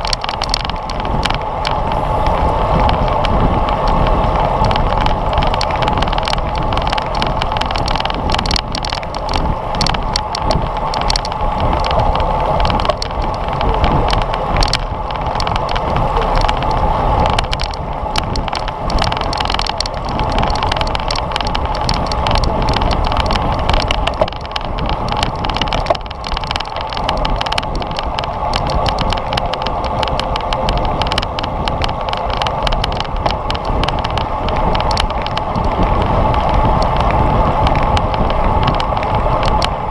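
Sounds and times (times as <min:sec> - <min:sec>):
rattle of rapid clicks: 0:00.0 - 0:39.9
tyre and road noise: 0:00.0 - 0:39.9
wind rushing over microphone: 0:00.0 - 0:39.9.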